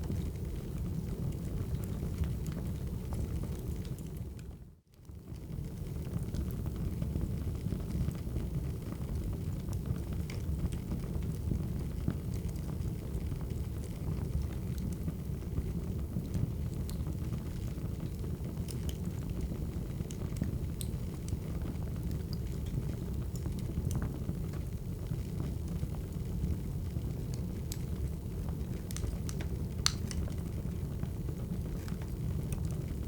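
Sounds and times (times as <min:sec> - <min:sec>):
fire crackling and popping: 0:00.0 - 0:04.5, 0:05.2 - 0:33.0
fire low rumble: 0:00.0 - 0:04.5, 0:05.1 - 0:33.0.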